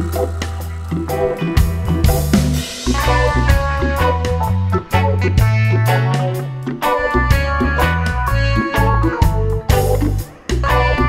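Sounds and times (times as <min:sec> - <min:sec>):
music with bass and drum beat: 0:00.0 - 0:11.0.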